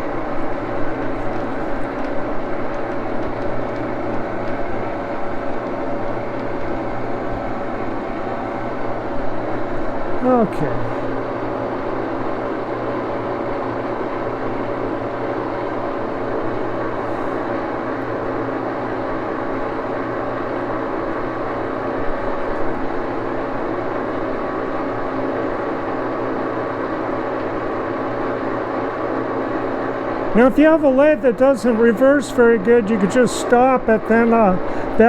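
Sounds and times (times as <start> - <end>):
lathe gearing hum: 0.0 - 35.0.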